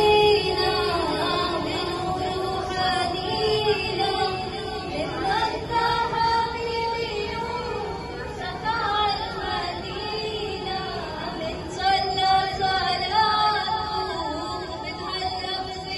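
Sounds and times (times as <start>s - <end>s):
women singing into microphone: 0.0s - 15.9s.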